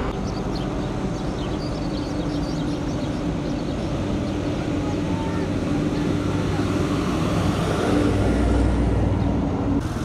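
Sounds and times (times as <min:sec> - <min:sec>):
heavy vehicle engines running: 0:00.0 - 0:10.0.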